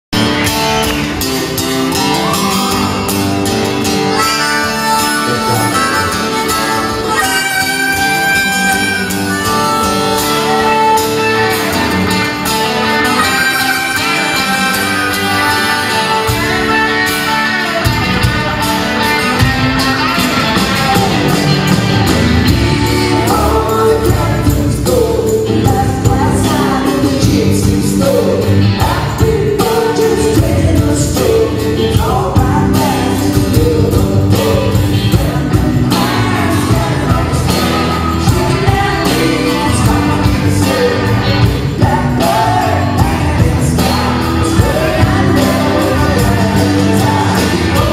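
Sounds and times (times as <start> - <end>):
acoustic and electric guitars: 0.0 - 47.9
drums: 0.1 - 47.9
keyboards: 0.1 - 47.9
person singing: 1.9 - 47.9.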